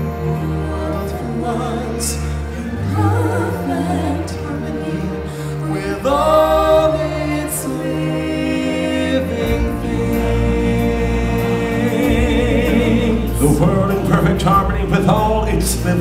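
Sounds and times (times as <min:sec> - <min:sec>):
choir holding long notes: 0:00.0 - 0:16.0
sustained bass accompaniment: 0:00.0 - 0:16.0.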